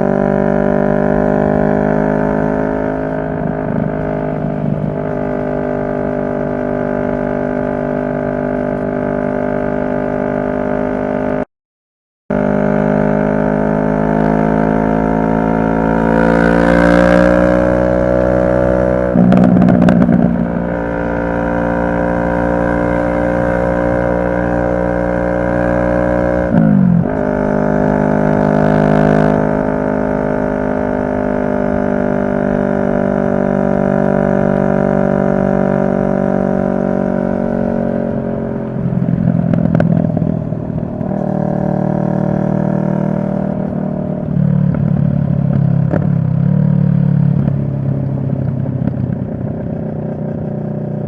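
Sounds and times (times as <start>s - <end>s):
motorcycle engine droning: 0.0s - 11.5s, 12.3s - 51.0s.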